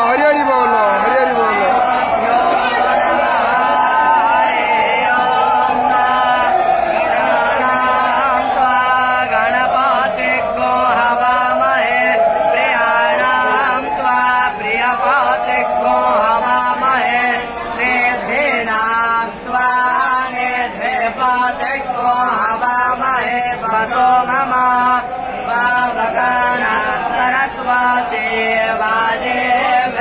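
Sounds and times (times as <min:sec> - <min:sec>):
crowd chanting and calling out: 0:00.0 - 0:30.0.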